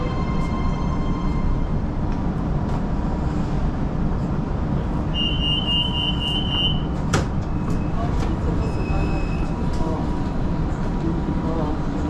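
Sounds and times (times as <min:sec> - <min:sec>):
metro train low rumble: 0:00.0 - 0:12.0.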